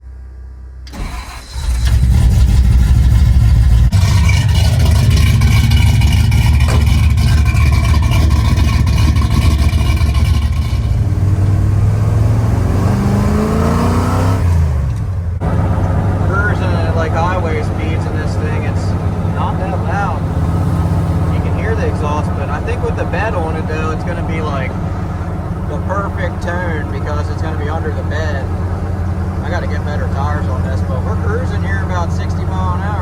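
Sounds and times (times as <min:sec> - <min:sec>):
truck engine starting and running: 0:00.0 - 0:33.0.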